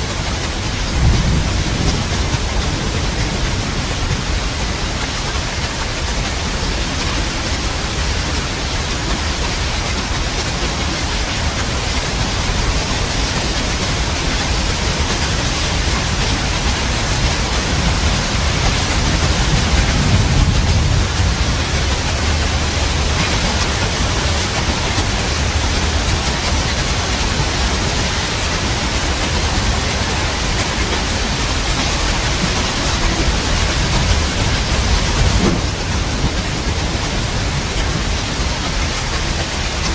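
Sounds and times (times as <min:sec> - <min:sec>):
dense rain: 0:00.0 - 0:39.9
thunder rumbling: 0:00.1 - 0:39.9.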